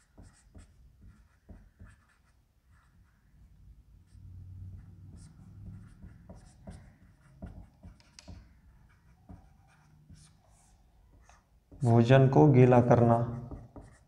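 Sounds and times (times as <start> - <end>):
marker pen writing on whiteboard: 0.0 - 3.4, 4.1 - 12.1, 13.0 - 14.0.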